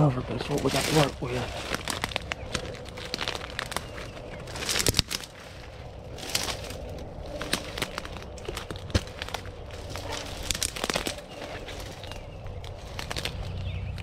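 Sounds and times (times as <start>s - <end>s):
leaf litter crackling and rustling: 0.0s - 14.0s.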